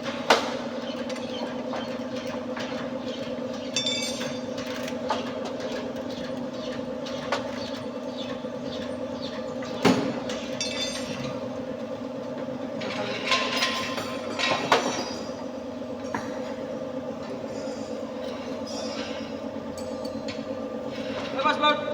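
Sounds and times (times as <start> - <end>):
machine humming: 0.5 - 21.9.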